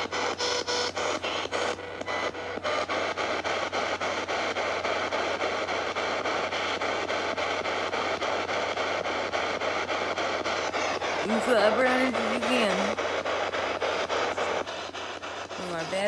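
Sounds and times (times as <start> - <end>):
radio static: 0.0 - 16.0
radio sweep clicks: 0.0 - 16.0.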